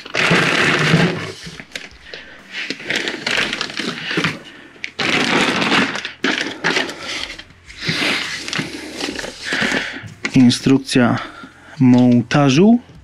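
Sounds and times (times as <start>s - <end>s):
packing material rustling: 0.0s - 12.4s.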